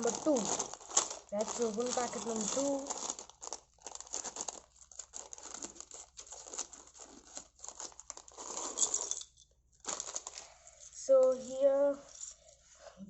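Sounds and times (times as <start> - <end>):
plastic bag crinkling and tearing: 0.0 - 9.2, 9.8 - 11.6.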